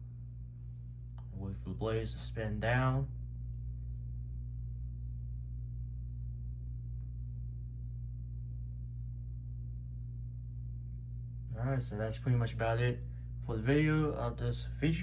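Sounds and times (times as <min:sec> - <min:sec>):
table fan humming: 0:00.0 - 0:15.0.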